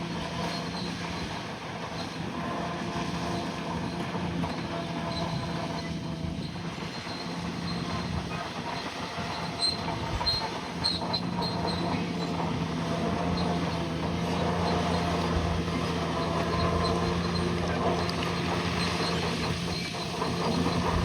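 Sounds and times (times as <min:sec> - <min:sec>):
diesel engine running: 0:00.0 - 0:21.0
high metallic squeaks: 0:03.8 - 0:21.0.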